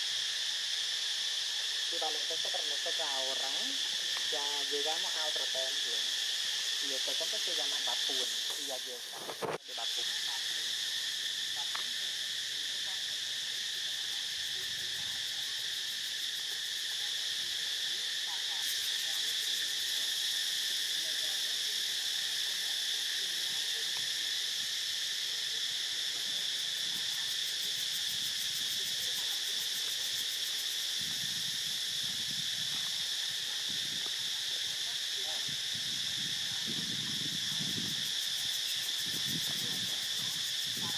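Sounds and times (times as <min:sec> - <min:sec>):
finely pulsing high insect layer: 0:00.0 - 0:40.9
insect chorus droning: 0:00.0 - 0:40.9.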